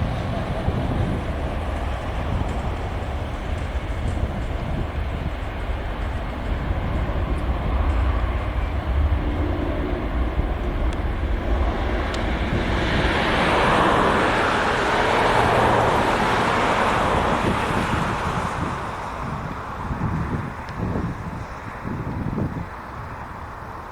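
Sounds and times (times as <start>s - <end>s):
jet engines roaring: 0.0s - 23.9s.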